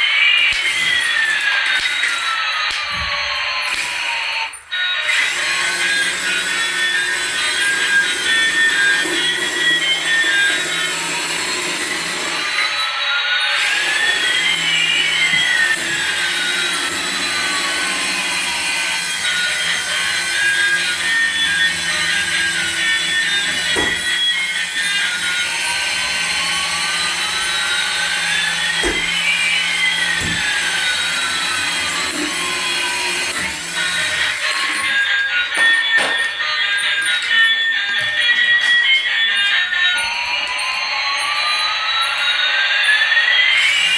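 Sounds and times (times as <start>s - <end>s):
toy aircraft whirring: 0.0s - 43.9s.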